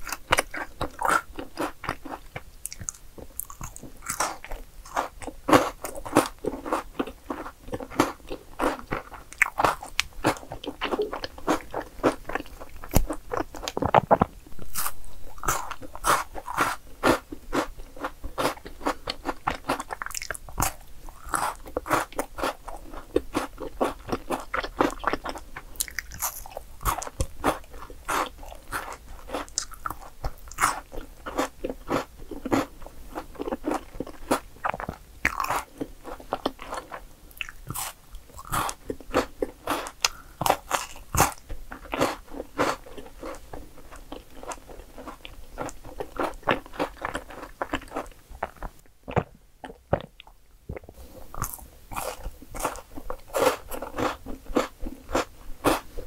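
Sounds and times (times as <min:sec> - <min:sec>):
crunchy chewing of chocolate bar: 0:00.0 - 0:56.0.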